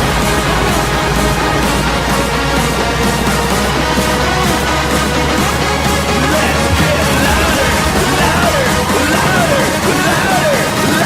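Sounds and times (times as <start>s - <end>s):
loud background music: 0.0s - 11.0s.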